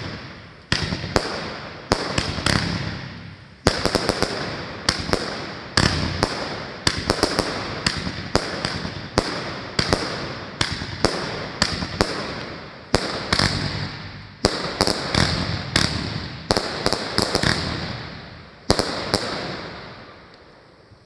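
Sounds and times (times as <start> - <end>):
fireworks bangs: 0.0 - 20.3.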